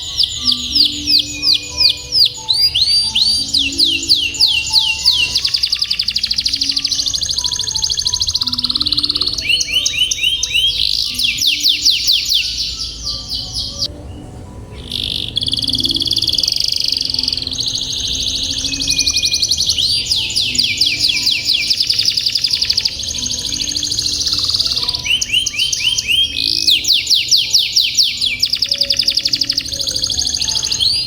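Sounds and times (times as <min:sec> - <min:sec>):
canary singing rolling trills: 0:00.0 - 0:31.0.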